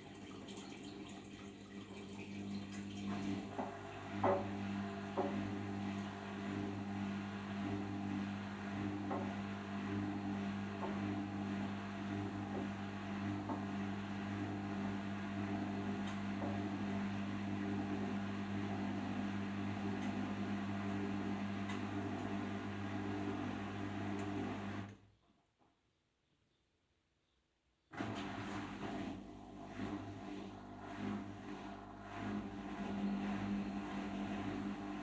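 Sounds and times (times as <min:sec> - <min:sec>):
washing machine spinning: 0:00.0 - 0:24.9, 0:28.0 - 0:35.0.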